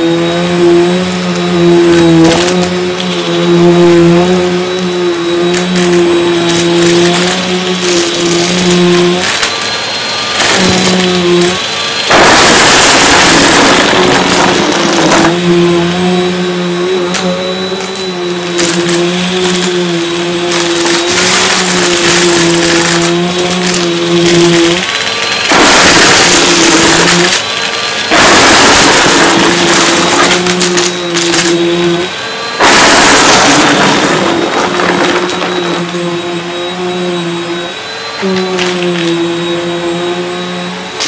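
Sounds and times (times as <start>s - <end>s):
vacuum cleaner motor hum: 0.0s - 41.0s
vacuum sucking up small objects: 0.0s - 41.0s.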